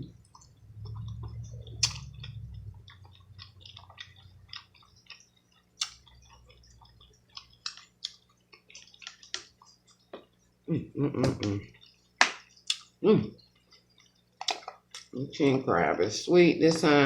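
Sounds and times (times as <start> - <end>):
wet chewing smacks and clicks: 0.2 - 10.4, 11.2 - 15.2.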